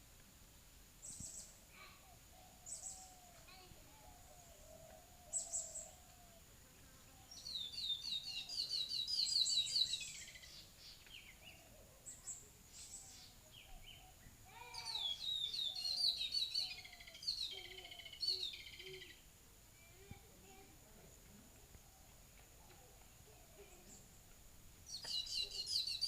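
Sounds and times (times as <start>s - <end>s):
songbird singing: 1.0s - 26.0s.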